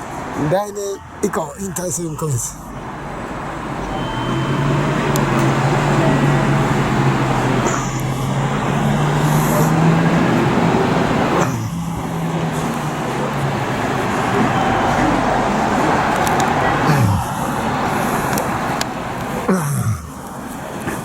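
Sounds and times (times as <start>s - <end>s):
motor vehicle humming: 0.0s - 21.0s
road noise: 0.0s - 21.0s.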